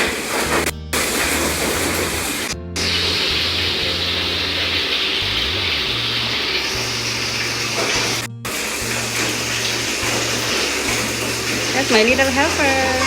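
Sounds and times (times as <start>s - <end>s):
background music bass line: 0.0s - 13.0s
water running from a tap: 0.0s - 13.0s.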